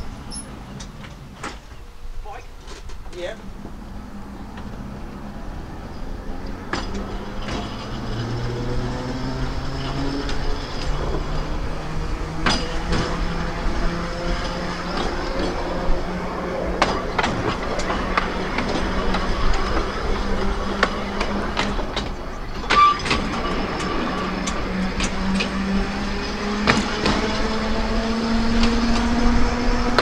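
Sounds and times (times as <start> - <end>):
tram motor hum and whine: 0.0 - 30.0
wheels clicking over rail joints: 0.0 - 30.0.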